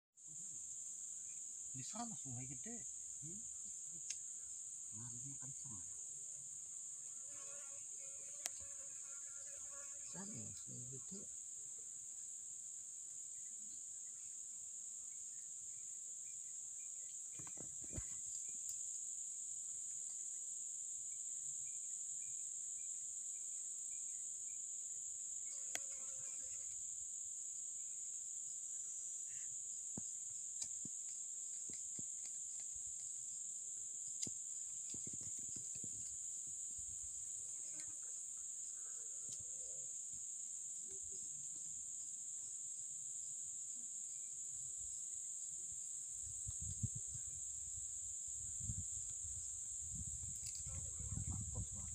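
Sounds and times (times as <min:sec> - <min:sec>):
high-pitched insect chorus: 0:00.2 - 0:51.9.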